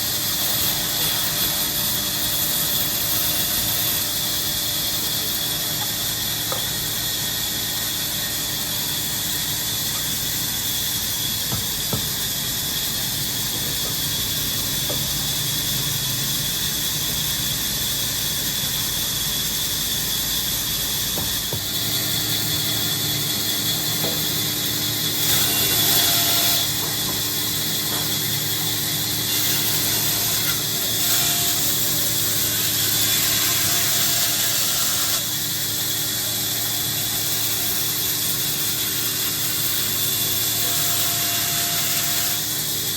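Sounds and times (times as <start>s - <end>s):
woodworking machinery running: 0.0s - 42.9s.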